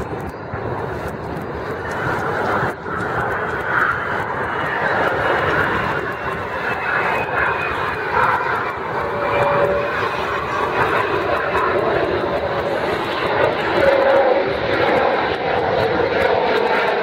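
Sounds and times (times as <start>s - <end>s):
jet engines roaring overhead: 0.0s - 17.0s.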